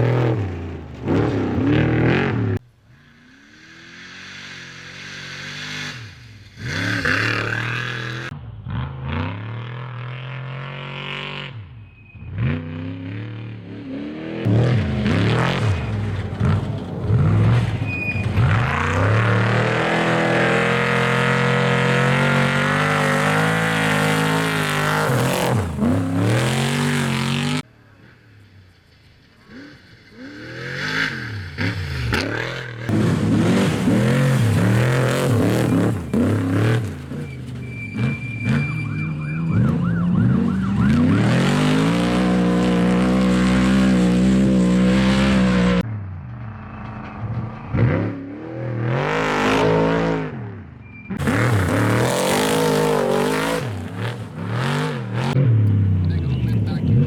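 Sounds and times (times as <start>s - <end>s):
race truck engine at full throttle: 0.0s - 28.2s, 29.2s - 57.0s.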